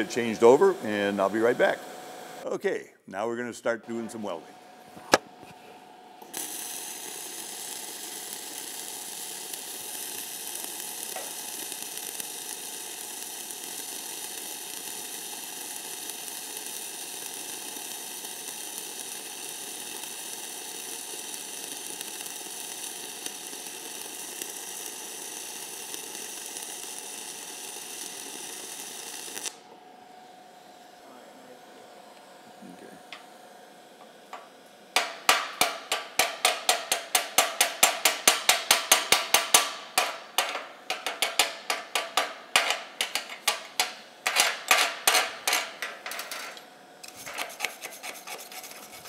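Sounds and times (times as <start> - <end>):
welding arc: 0.0 - 2.4, 6.2 - 29.7, 32.8 - 49.0.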